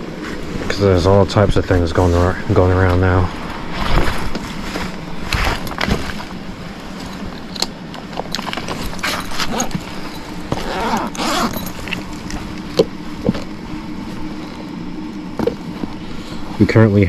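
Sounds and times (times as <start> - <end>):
rustling and handling noises: 0.0 - 16.8
faint steady hum: 0.0 - 17.0.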